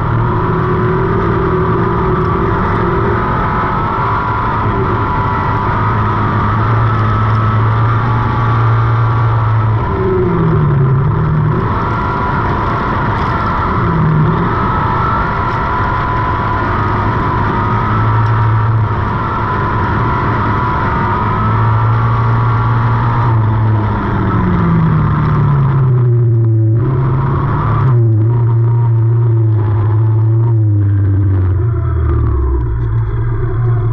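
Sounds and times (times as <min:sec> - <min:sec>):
race car engine running hard: 0:00.0 - 0:33.9.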